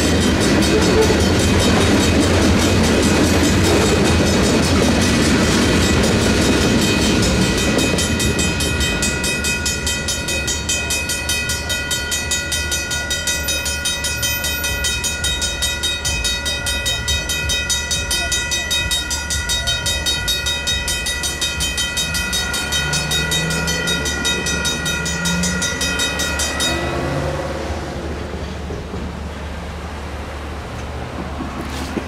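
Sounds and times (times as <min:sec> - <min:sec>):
freight train wheel clatter: 0:00.0 - 0:27.4, 0:28.1 - 0:29.9, 0:30.7 - 0:32.0
railroad crossing bells ringing: 0:00.0 - 0:30.9.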